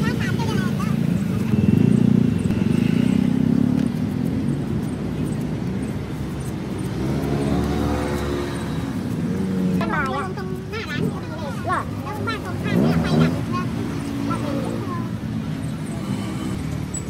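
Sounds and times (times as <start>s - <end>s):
engine passing by: 0.0s - 17.0s
vehicle engines running: 0.0s - 17.0s.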